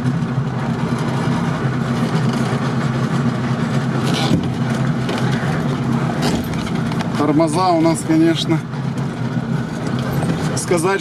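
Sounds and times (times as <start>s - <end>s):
vehicle engine from inside cabin: 0.0s - 11.0s.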